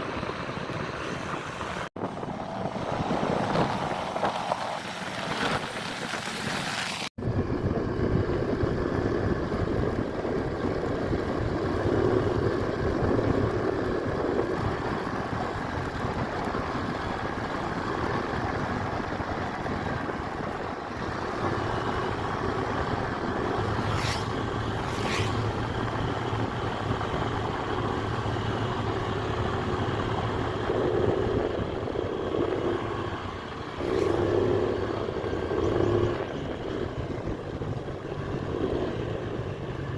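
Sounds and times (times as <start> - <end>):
road and wind noise: 0.0 - 39.9
scooter engine running: 0.0 - 39.9.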